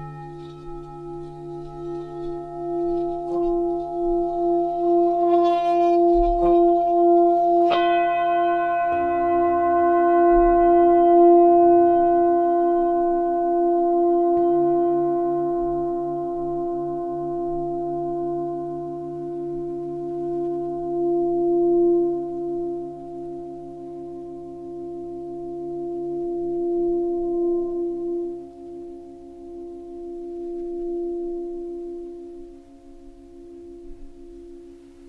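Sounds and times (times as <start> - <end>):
sustained ringing drone music: 0.0 - 35.0.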